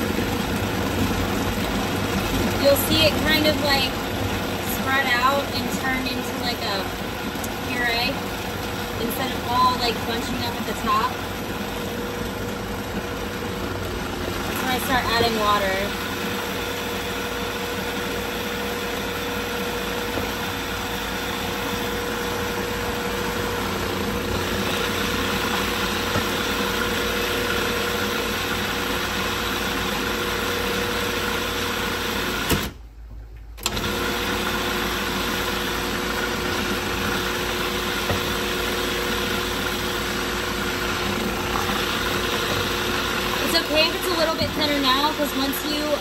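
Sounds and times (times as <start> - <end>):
food processor motor humming: 0.0 - 32.8, 33.6 - 46.0.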